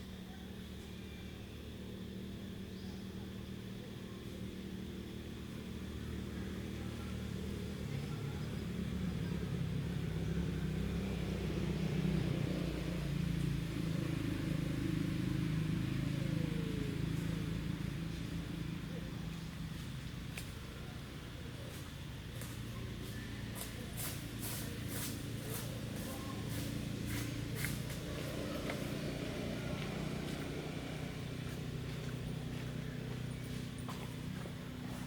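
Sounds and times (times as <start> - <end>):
motor engine humming: 0.0 - 35.0.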